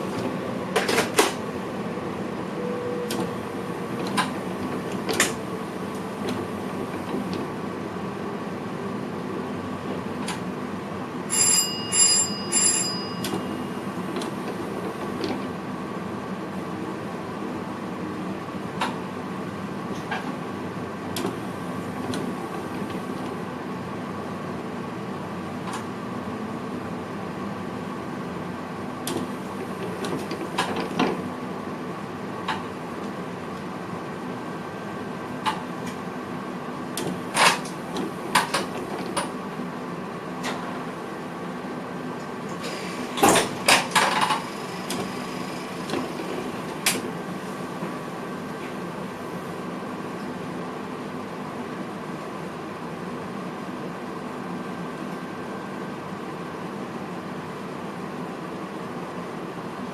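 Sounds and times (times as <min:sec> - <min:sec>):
train cab hum: 0:00.0 - 0:59.9.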